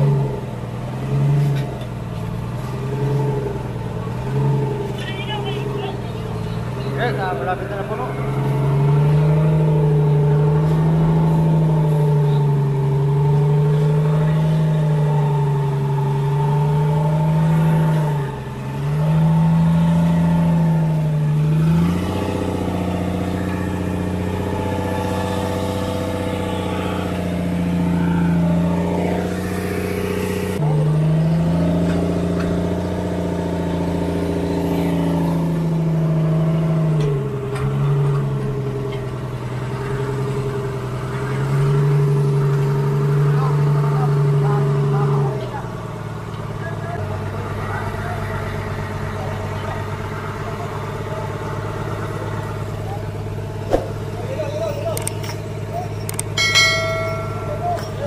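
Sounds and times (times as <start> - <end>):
boat engine running: 1.8 - 58.0.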